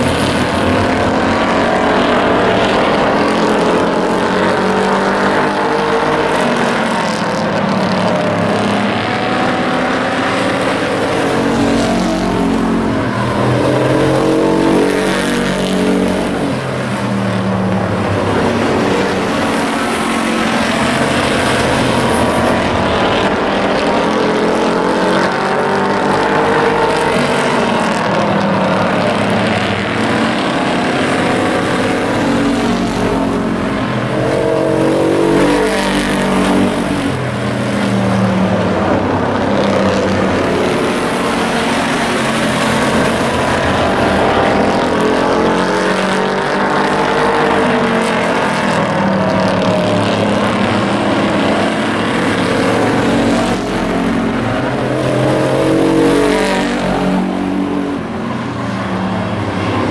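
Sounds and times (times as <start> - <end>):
race truck engines passing: 0.0 - 59.9.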